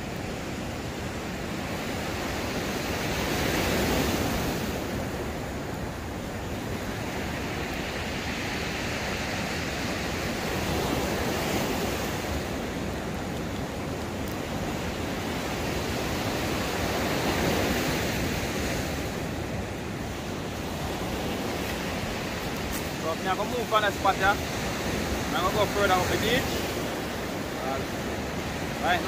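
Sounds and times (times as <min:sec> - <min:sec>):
waves washing onto pebbles: 0:00.0 - 0:29.0.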